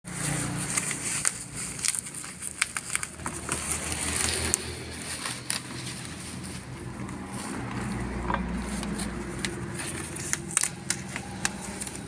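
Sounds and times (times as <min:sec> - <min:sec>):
packaging crackling: 0:00.1 - 0:12.0.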